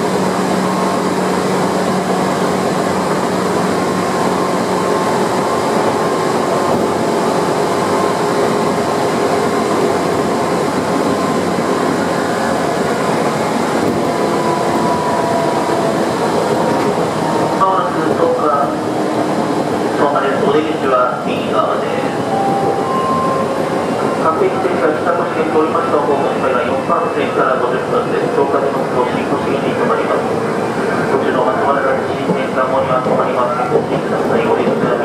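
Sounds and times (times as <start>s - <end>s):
train wheels running on rails: 0.0s - 35.0s.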